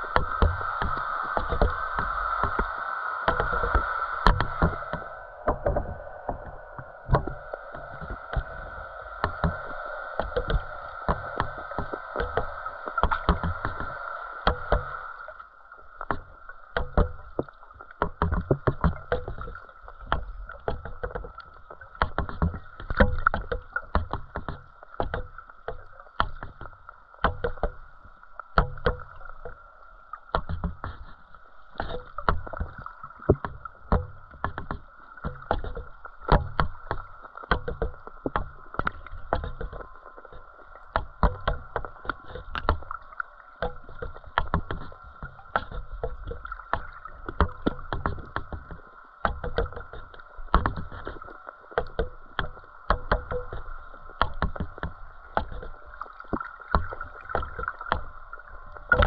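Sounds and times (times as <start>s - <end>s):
knocks and clicks underwater: 0.0s - 59.0s
underwater hum: 0.0s - 59.0s.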